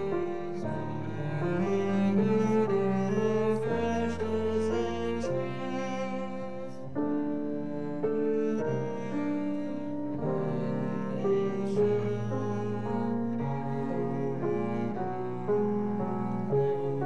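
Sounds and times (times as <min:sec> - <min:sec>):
slow instrumental hymn chords: 0:00.0 - 0:17.0.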